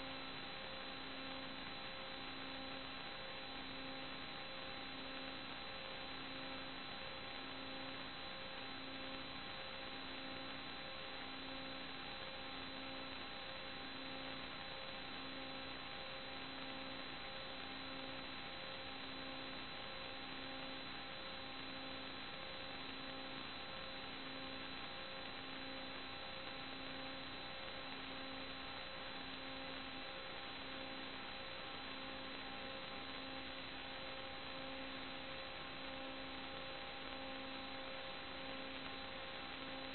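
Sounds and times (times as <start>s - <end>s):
electrical hum and hiss: 0.0s - 39.9s.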